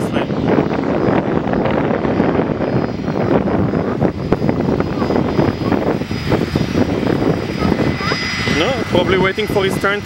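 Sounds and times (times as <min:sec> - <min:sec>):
high turbine whine: 0:00.0 - 0:10.0
jet engines rumbling: 0:00.0 - 0:10.0.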